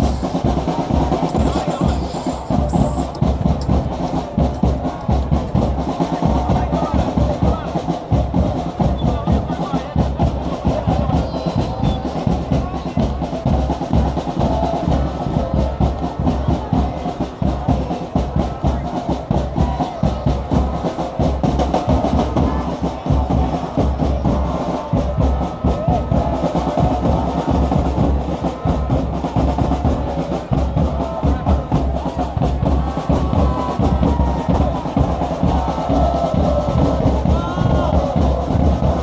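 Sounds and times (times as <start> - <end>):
crowd chanting: 0.0 - 39.0
drums beating fast rhythm: 0.0 - 39.0.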